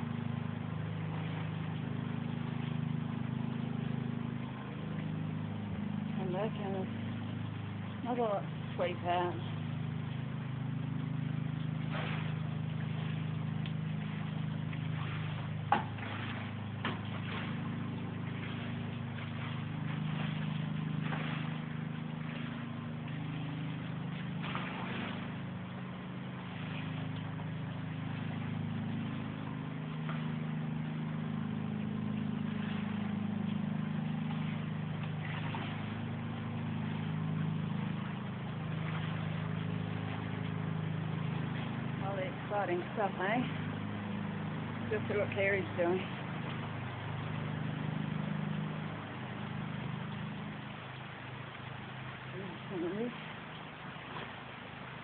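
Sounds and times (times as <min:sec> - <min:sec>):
runoff water flowing: 0:00.0 - 0:55.0.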